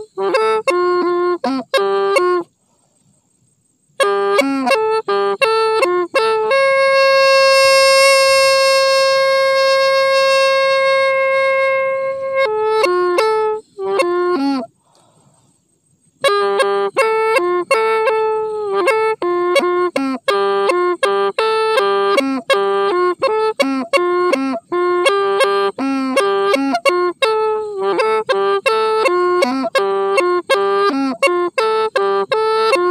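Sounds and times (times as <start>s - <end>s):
end-blown pipe melody: 4.0s - 14.7s, 16.2s - 32.9s.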